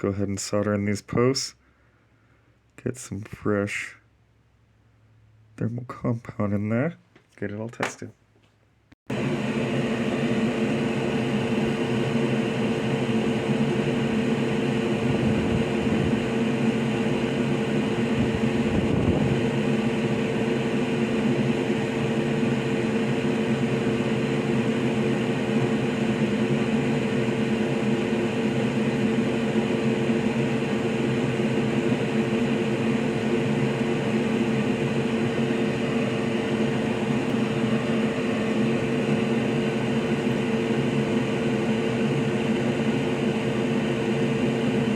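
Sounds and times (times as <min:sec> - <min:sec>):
mechanical hum and whir: 0:00.0 - 0:44.9.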